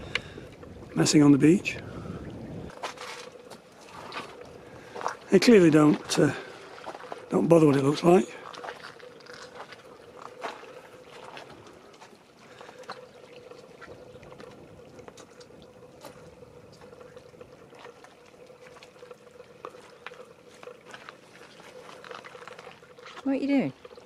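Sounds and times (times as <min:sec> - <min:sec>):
steady hum: 0:00.0 - 0:24.0
small waves lapping on pebbles: 0:02.7 - 0:24.0.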